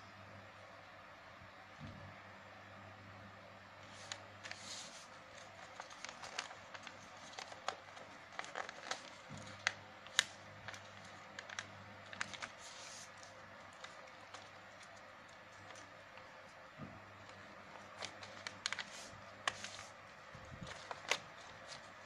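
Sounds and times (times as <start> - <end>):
paper being creased and folded: 3.8 - 22.0.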